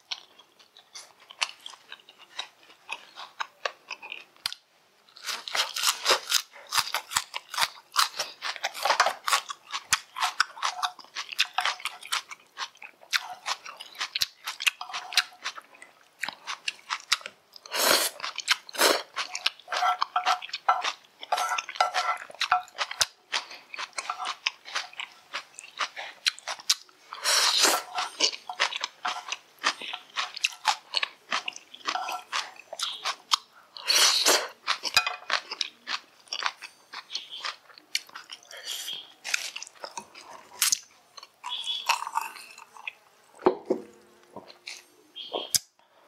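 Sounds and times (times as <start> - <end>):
wet chewing and crunching: 0.0 - 45.6.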